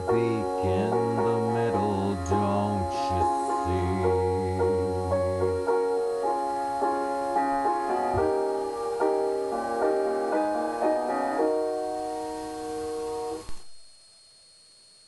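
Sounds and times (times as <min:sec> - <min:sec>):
piano keyboard playing chords: 0:00.0 - 0:13.5.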